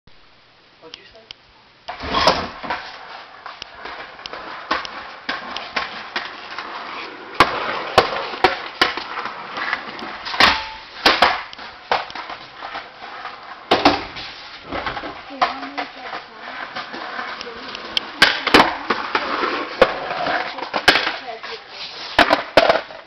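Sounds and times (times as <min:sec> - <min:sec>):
skateboard wheels rolling on concrete: 0:01.8 - 0:23.0
skateboard slapping the floor: 0:01.9 - 0:23.0.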